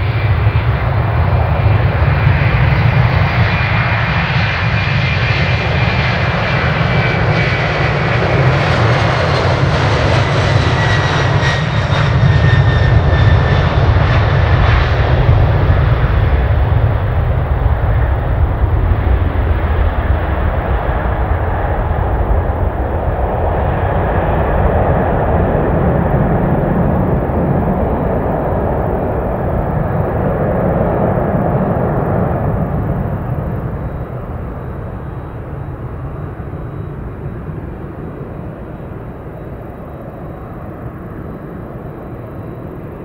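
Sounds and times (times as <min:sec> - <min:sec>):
jet engines at takeoff: 0:00.0 - 0:43.0.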